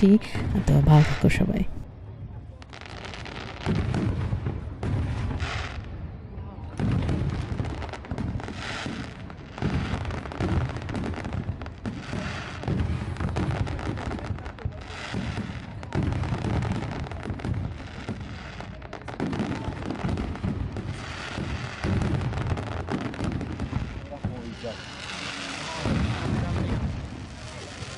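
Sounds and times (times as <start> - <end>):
fireworks booming: 2.7 - 27.9.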